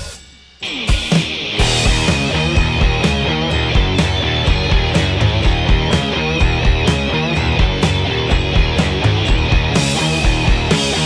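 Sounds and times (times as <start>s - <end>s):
rock music with drums and guitar: 0.0s - 11.0s.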